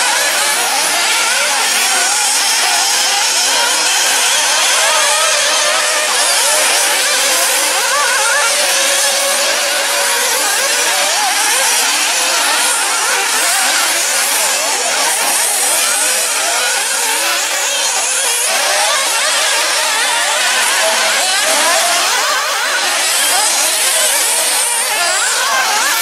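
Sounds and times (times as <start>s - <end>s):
small engines buzzing high-pitched: 0.0s - 26.0s.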